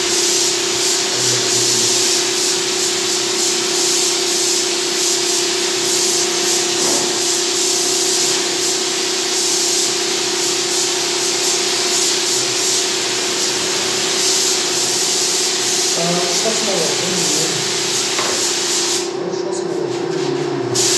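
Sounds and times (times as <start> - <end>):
spray gun hissing: 0.0 - 19.2.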